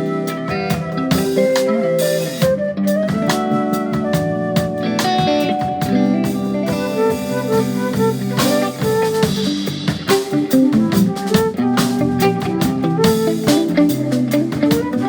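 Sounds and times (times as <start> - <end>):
bass guitar: 0.0 - 15.0
drums and cymbals: 0.0 - 15.0
jazz fusion guitar: 0.0 - 15.0.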